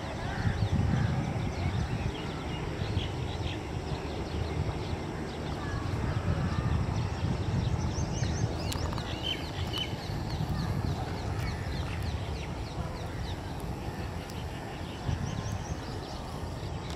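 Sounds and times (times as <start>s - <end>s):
small birds chirping: 0.0s - 16.9s
steady low rumble: 0.0s - 16.9s.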